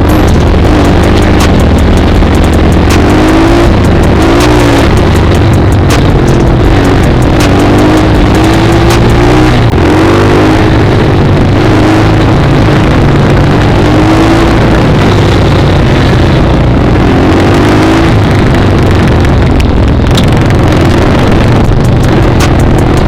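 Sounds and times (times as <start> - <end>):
dirt bike engine: 0.0 - 23.0.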